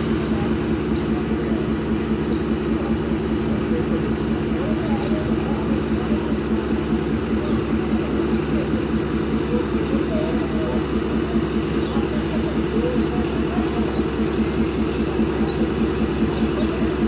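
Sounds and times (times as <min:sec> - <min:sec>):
locomotive engine idling: 0:00.0 - 0:17.0.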